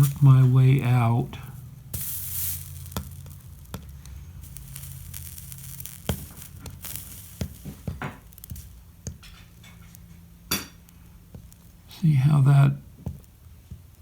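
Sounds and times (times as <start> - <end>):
flux sizzling and crackling: 0.0 - 14.0
low steady hum: 0.0 - 14.0.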